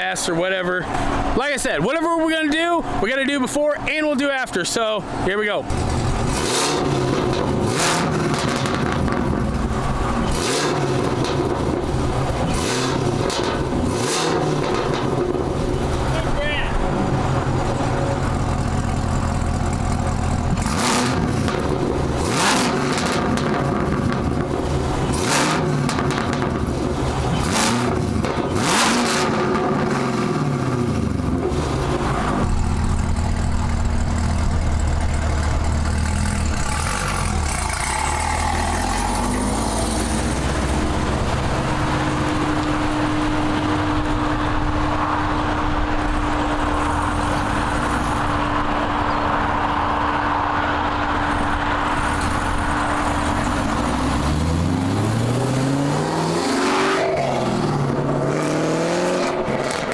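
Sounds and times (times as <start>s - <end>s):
car engine revving: 2.2s - 59.9s
supercharger whine: 5.7s - 59.9s.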